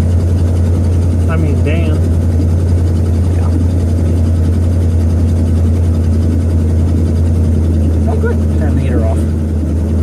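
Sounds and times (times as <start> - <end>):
car engine drone from inside: 0.0 - 10.0
road noise: 0.0 - 10.0.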